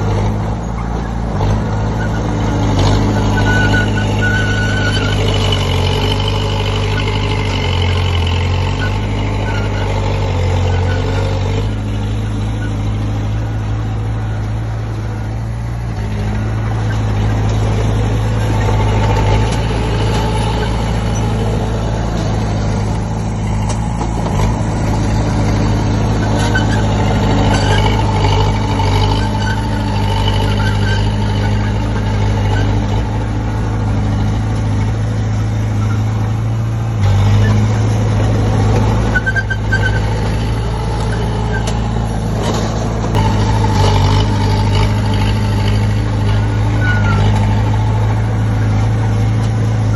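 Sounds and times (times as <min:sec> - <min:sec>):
bulldozer diesel engine drone: 0:00.0 - 0:49.9.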